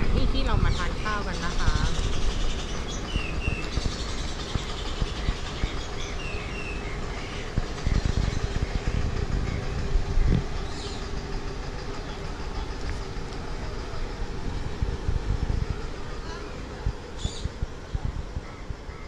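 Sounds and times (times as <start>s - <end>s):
constant hum: 0.0s - 19.0s
vehicle low rumble: 0.0s - 19.0s.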